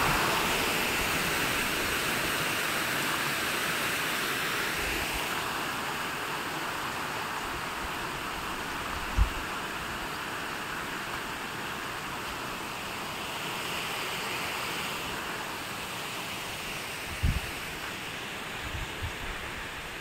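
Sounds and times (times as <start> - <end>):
rushing water hiss: 0.0 - 20.0.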